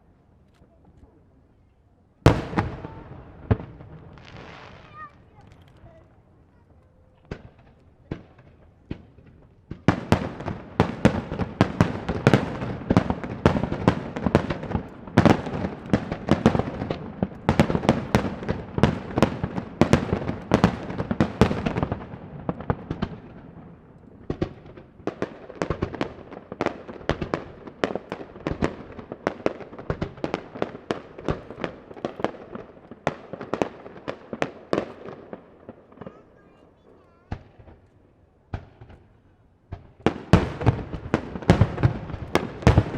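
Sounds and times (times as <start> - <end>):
fireworks rumble: 0.0 - 42.9
fireworks bangs: 2.2 - 42.9.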